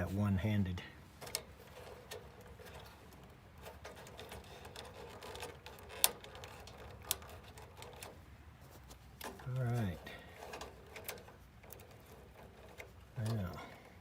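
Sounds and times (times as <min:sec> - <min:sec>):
rustling: 0:01.0 - 0:14.0
wire connectors clicking: 0:01.2 - 0:14.0.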